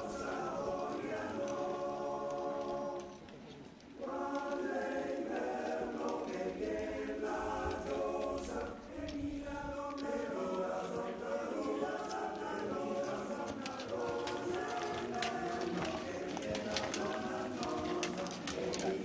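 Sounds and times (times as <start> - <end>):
choir singing unaccompanied: 0.0 - 3.3, 4.0 - 19.0.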